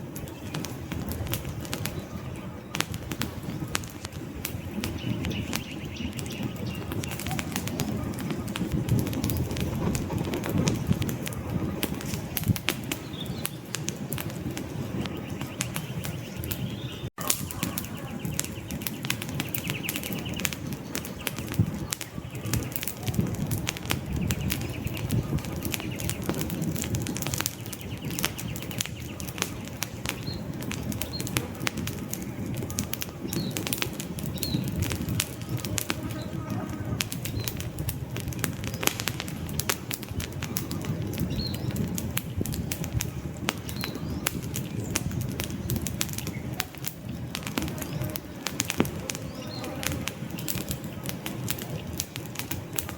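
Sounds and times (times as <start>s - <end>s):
campfire crackling and popping: 0.0s - 52.9s
rush of flame: 0.0s - 52.9s.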